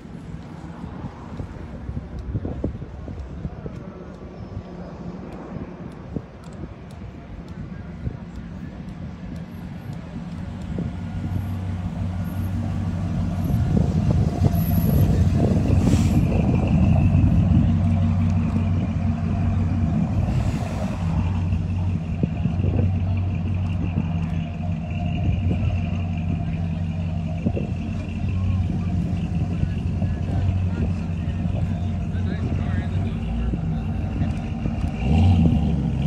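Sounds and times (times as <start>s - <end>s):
car engine passing slowly: 0.0s - 36.0s.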